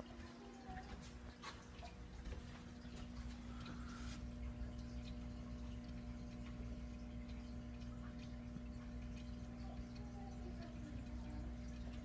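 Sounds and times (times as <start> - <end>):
aquarium equipment humming: 0.0 - 12.0
faint water drips: 0.0 - 12.0.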